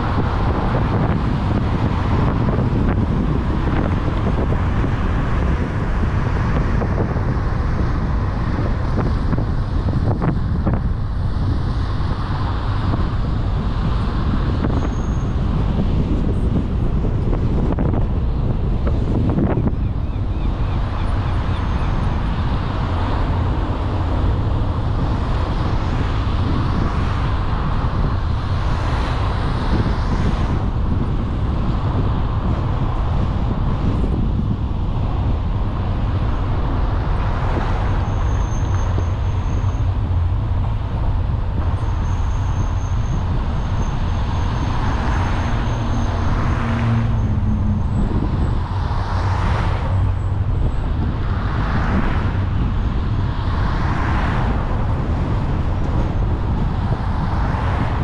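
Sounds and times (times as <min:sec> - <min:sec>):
car engine and tyre rumble: 0:00.0 - 0:58.0
oncoming cars passing: 0:00.0 - 0:58.0.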